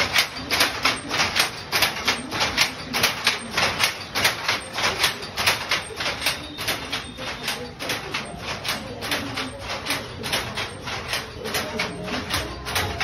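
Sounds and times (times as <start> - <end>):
power loom clattering: 0.0 - 13.0.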